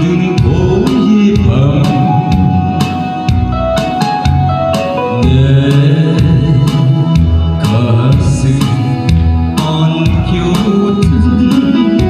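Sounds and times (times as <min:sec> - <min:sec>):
man singing into a microphone: 0:00.0 - 0:03.2, 0:04.8 - 0:12.0
accompaniment with steady drum beat: 0:00.0 - 0:12.0.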